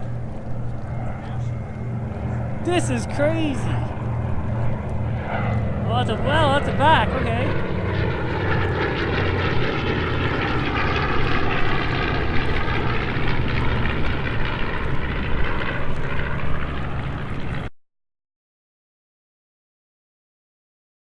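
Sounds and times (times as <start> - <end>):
propeller airplane engine drone: 0.0 - 17.7.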